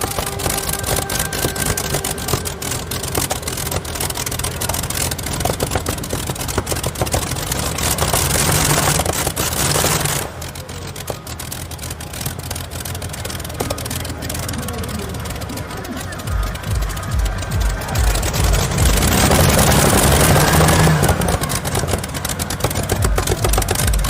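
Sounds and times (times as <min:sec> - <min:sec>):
tractor engines rumbling and crackling: 0:00.0 - 0:24.0.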